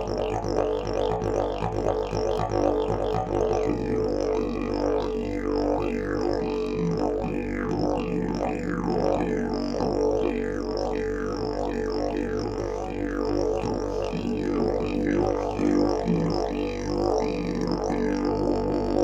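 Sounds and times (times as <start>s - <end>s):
didgeridoo drone: 0.0s - 19.0s.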